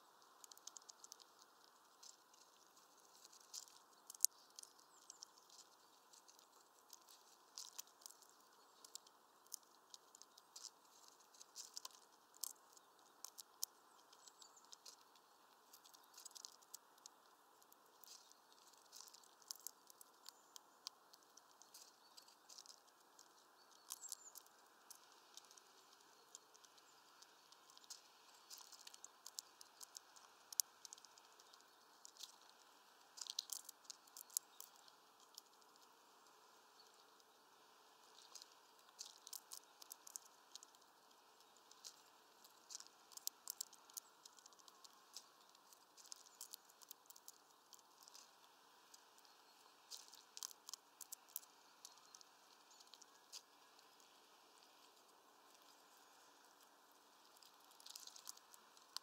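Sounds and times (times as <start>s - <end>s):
squirrel cracking seeds: 0.0s - 59.0s.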